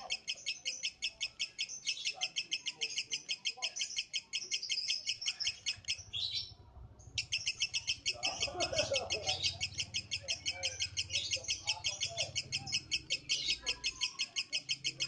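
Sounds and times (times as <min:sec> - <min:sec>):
lovebird chattering trill: 0:00.0 - 0:15.0.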